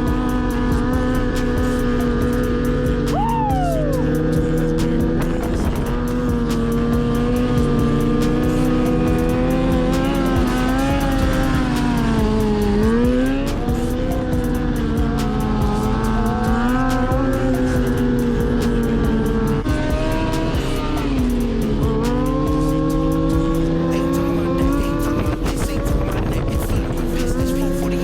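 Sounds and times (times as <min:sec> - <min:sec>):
motorcycle engine revving high: 0:00.0 - 0:28.0.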